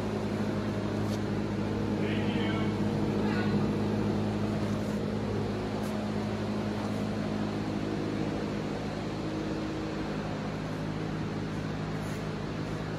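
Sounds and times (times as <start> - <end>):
ventilation fans humming: 0.0 - 12.9.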